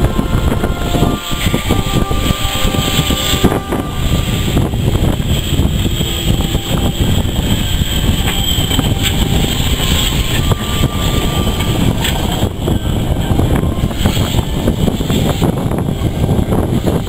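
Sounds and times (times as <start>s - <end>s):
steam engine rumbling: 0.0s - 17.0s
wind buffeting microphone: 0.0s - 17.0s.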